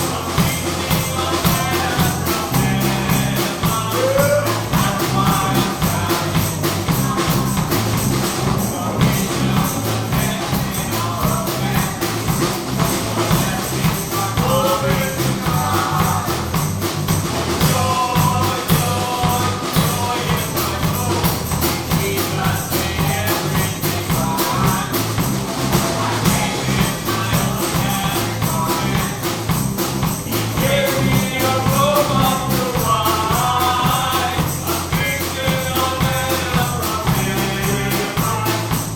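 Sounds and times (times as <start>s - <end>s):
gospel music with driving beat: 0.0s - 38.9s
jingling percussion: 0.0s - 38.9s
voices singing: 0.0s - 38.9s.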